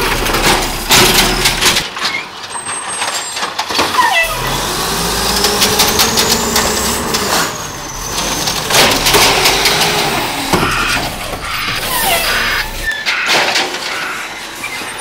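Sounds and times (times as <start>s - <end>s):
garbage truck engine revving: 0.0s - 1.9s, 3.9s - 15.0s
cart knocking and clattering: 0.0s - 14.2s.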